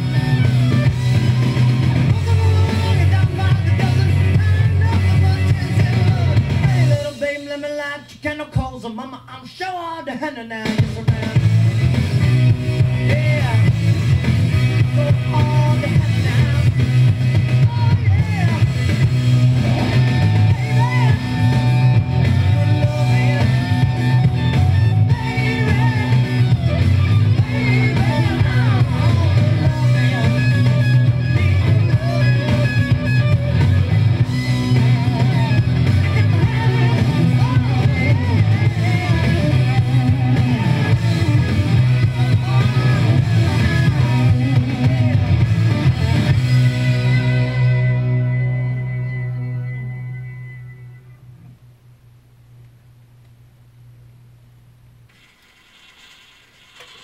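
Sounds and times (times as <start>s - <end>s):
rock song from jukebox: 0.0s - 51.5s.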